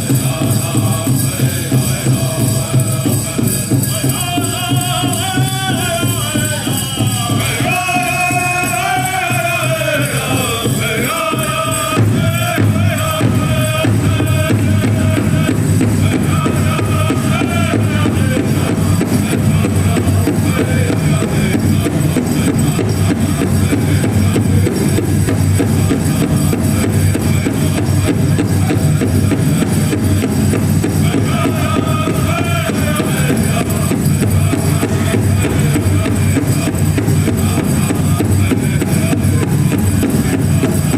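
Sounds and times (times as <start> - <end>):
big drum beating: 0.0 - 40.9
high singing voices: 0.0 - 40.9.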